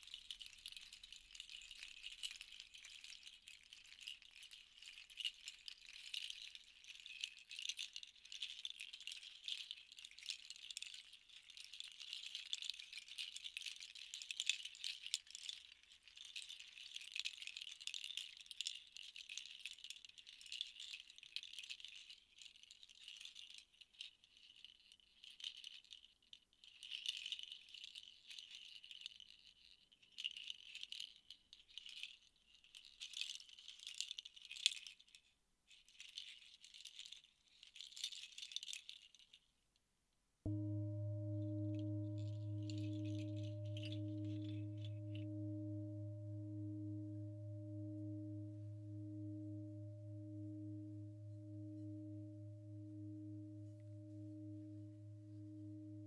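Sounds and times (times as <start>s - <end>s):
hand rattles shaken: 0.0s - 39.5s, 41.4s - 56.0s.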